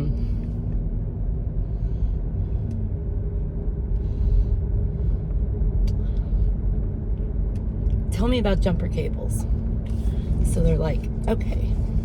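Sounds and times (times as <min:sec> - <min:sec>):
car rumble in motion: 0:00.0 - 0:12.0
faint constant hum: 0:00.0 - 0:12.0.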